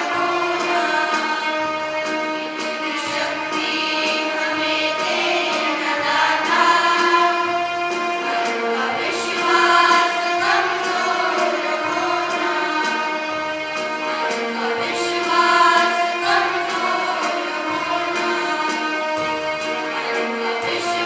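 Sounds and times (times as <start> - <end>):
choir of young voices singing: 0.0 - 21.0
musical accompaniment: 0.0 - 21.0.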